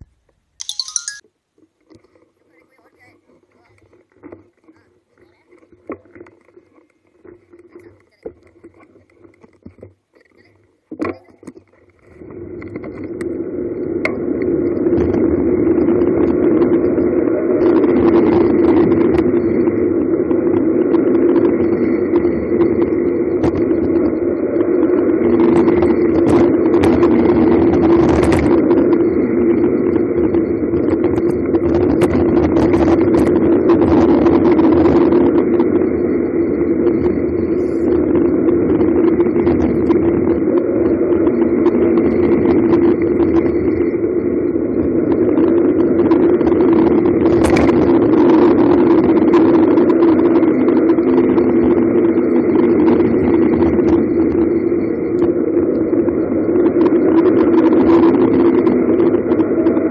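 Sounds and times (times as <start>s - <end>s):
bicycle rattling over rough road: 2.0s - 59.9s
bicycle coasting hum: 3.3s - 59.9s.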